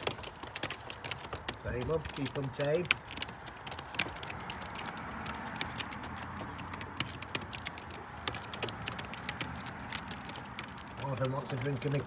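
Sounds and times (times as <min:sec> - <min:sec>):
pigeon feet and beaks tapping: 0:00.0 - 0:12.0.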